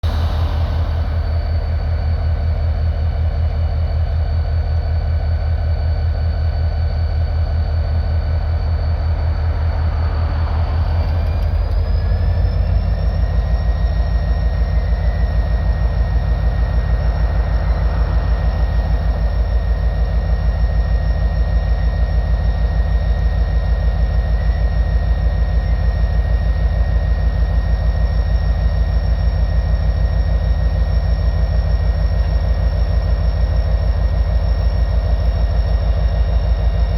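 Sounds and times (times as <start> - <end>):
diesel locomotive engine pulsing: 0.0 - 36.9
high engine whine: 0.0 - 36.9.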